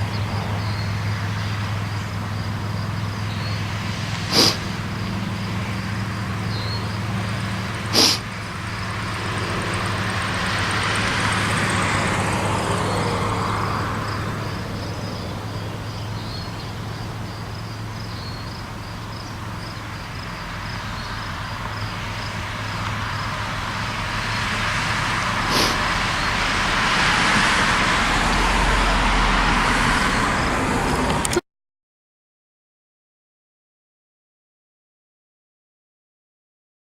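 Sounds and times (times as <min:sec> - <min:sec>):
train wheel noise rushing: 0:00.0 - 0:17.9, 0:18.5 - 0:31.4
diesel engine drone: 0:00.0 - 0:31.4.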